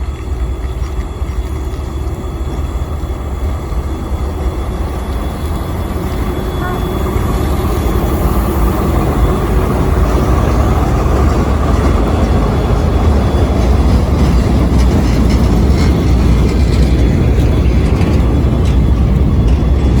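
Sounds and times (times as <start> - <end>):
freight train rumbling: 0.0 - 20.0.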